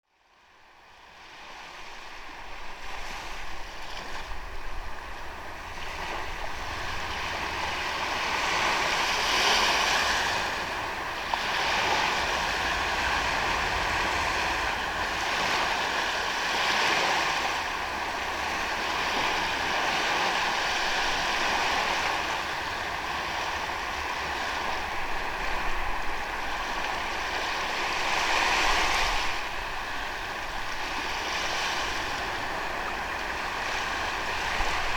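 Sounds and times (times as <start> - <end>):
ocean waves breaking on beach: 0.3 - 34.9.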